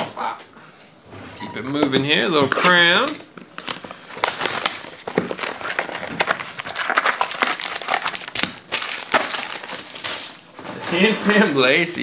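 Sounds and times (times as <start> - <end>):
plastic and foil wrappers crinkling: 2.2 - 12.0.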